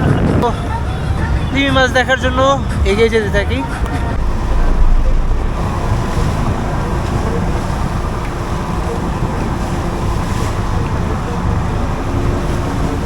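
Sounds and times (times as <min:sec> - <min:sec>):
boat engine rumbling: 0:00.0 - 0:13.0
water noise: 0:00.0 - 0:13.0
wind: 0:00.0 - 0:13.0.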